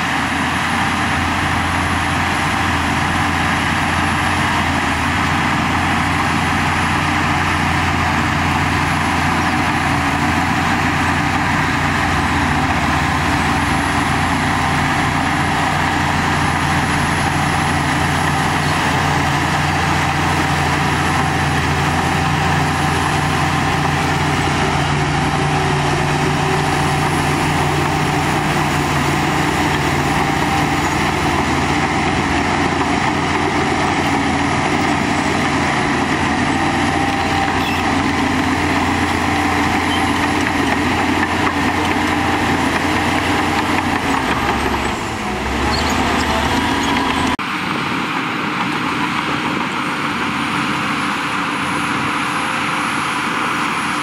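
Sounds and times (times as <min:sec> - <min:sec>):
bulldozer blade pushing soil: 0:00.0 - 0:54.0
bulldozer diesel engine running: 0:00.0 - 0:54.0.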